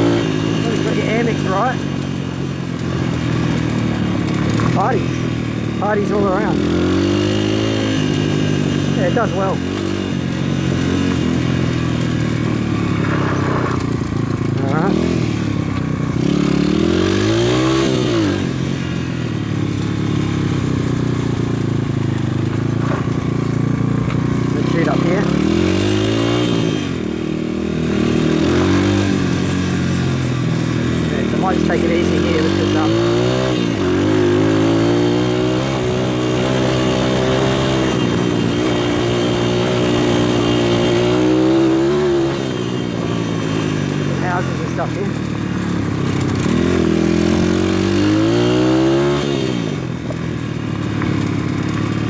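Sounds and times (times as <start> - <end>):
pit bike engine running: 0.0 - 52.0.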